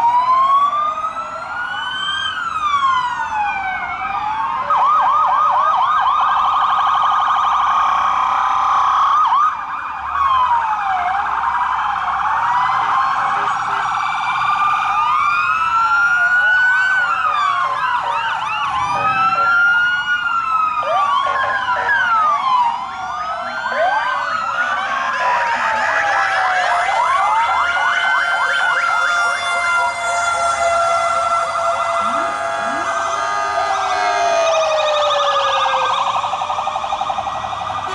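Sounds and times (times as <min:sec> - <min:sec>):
police sirens wailing: 0:00.0 - 0:37.9
police sirens yelping: 0:00.0 - 0:37.9.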